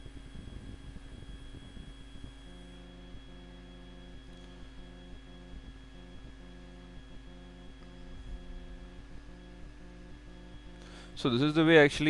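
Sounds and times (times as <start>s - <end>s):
faint steady tones: 0.0s - 12.0s
low electrical hum: 0.0s - 12.0s.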